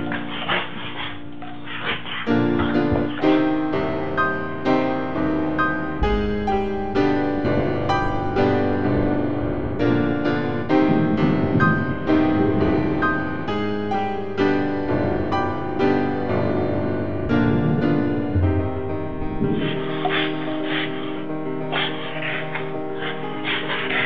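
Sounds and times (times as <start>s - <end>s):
piano melody: 0.0s - 24.0s.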